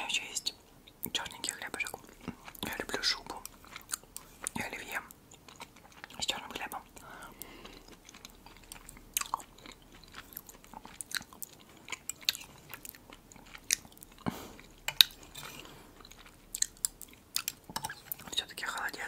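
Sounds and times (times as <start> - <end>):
soft chewing and mouth sounds: 0.0 - 19.0.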